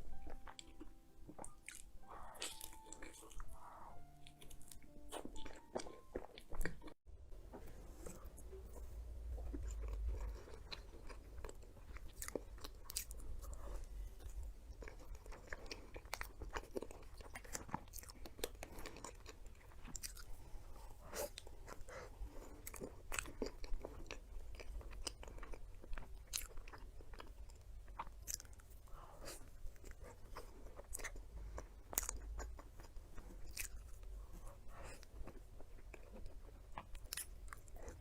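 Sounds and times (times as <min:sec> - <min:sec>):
person chewing crunchy food: 0:00.1 - 0:07.0, 0:08.0 - 0:38.0.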